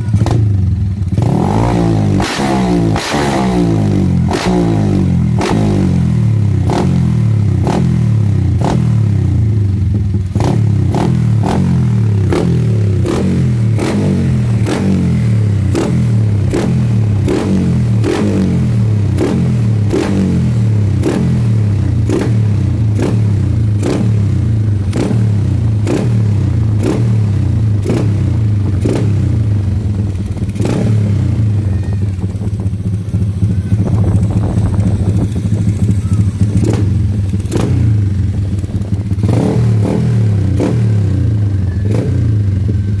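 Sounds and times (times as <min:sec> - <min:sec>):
sharp exhaust cracks: 0:00.0 - 0:42.8
motorcycle engine idling loudly: 0:00.0 - 0:43.0.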